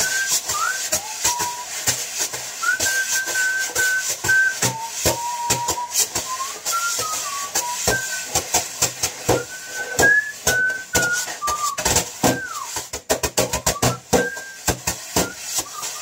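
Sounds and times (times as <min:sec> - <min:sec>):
man whistling a tune: 0:00.0 - 0:01.9, 0:02.6 - 0:12.8, 0:13.4 - 0:16.0
utensils drumming on cardboard box: 0:00.0 - 0:16.0.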